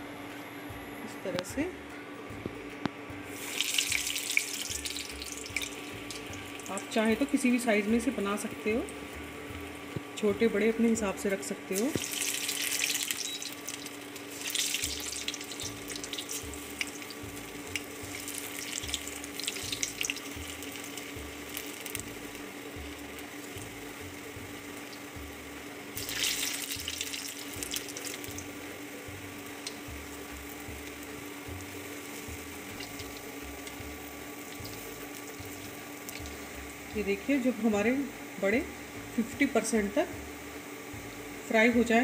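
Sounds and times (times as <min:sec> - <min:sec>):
faint steady hum: 0:00.0 - 0:42.0
batter deep-frying in oil: 0:03.2 - 0:42.0.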